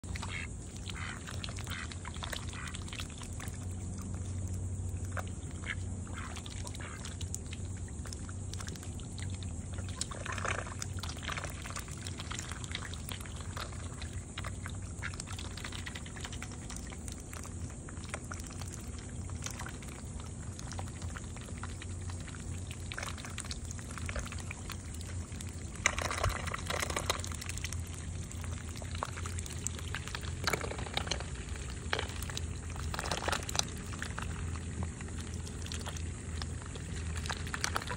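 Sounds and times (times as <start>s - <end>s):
ducks splashing in muddy water: 0.0s - 37.9s
low hum: 0.0s - 37.9s.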